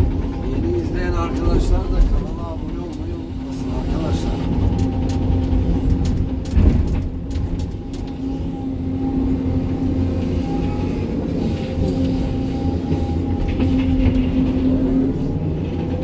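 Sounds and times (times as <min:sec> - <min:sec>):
excavator engine with hydraulic whine: 0:00.0 - 0:16.0.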